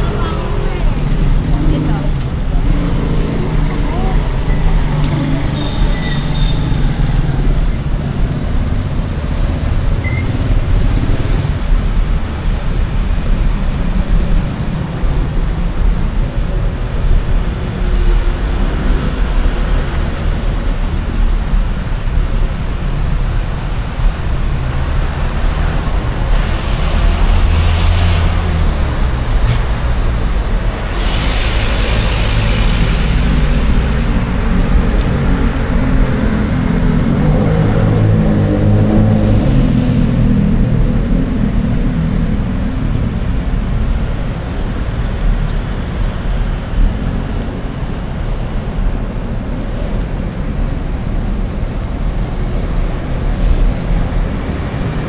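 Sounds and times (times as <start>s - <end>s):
road traffic rumble: 0.0s - 55.0s
vehicles rushing past: 0.0s - 55.0s.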